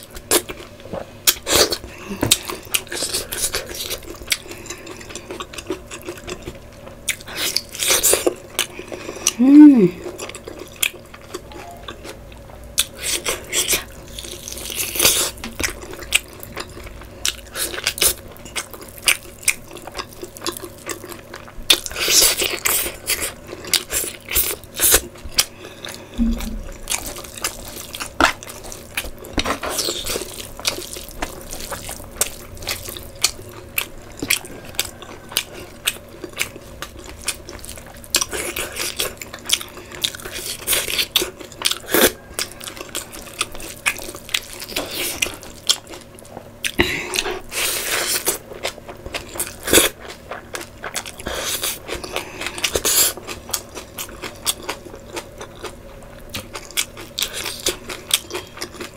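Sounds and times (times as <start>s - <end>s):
person chewing food: 0.0s - 58.9s.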